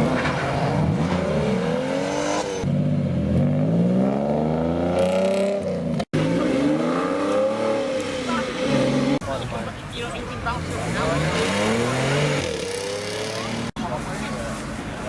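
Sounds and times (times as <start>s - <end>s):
sports car engines revving: 0.0s - 9.4s, 10.1s - 13.8s.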